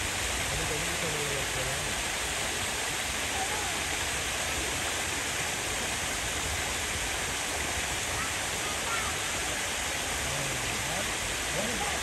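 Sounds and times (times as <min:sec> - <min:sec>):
water spilling over wall: 0:00.0 - 0:12.0.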